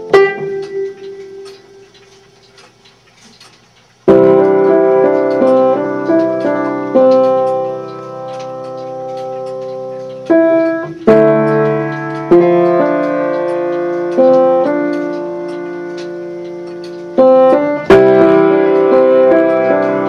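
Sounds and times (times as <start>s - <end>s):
faint regular ticking: 0.0s - 20.0s
piano chords: 0.0s - 20.0s.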